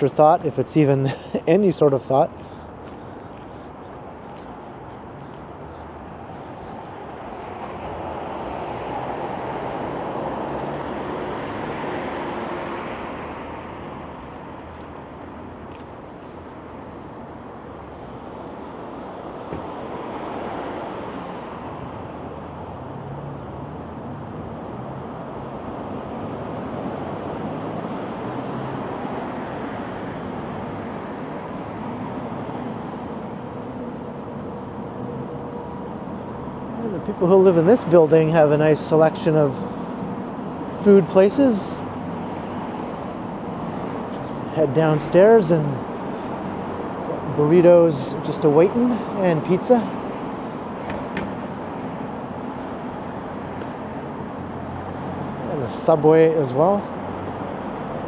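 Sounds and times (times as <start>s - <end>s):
cars passing: 0.0s - 58.0s
steady traffic hum: 0.0s - 58.0s.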